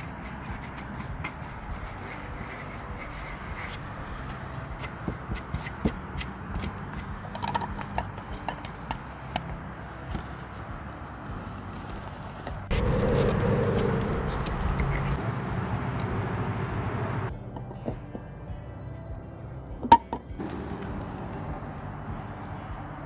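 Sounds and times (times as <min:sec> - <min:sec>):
steady background sound: 0:00.0 - 0:23.0.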